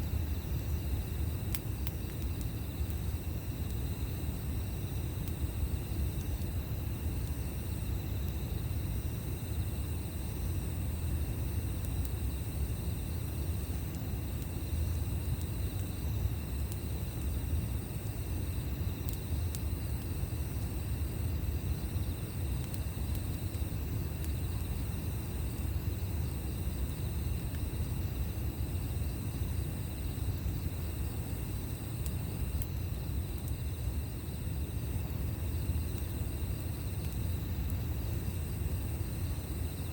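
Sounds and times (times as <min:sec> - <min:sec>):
campfire crackling: 0:00.0 - 0:39.9
insects trilling: 0:00.0 - 0:39.9.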